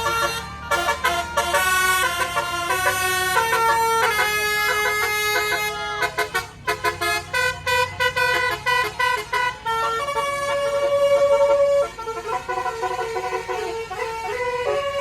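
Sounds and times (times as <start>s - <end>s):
musical vehicle horn tune: 0.0s - 15.0s.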